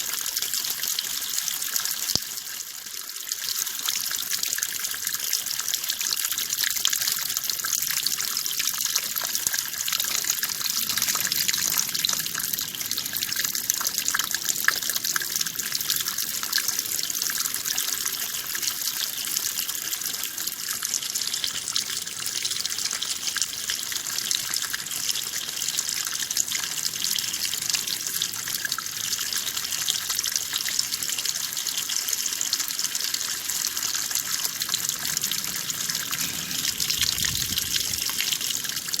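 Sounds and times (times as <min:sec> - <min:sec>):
running water pouring: 0:00.0 - 0:39.0.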